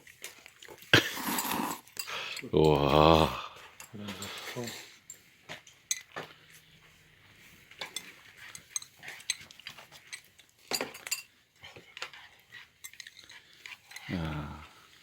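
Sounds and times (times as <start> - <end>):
utensils clinking on cookware: 0.0 - 6.6, 7.6 - 15.0.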